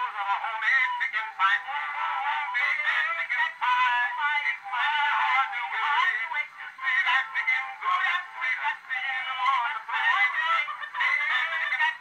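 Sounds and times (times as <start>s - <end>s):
men singing a duet: 0.0s - 12.0s.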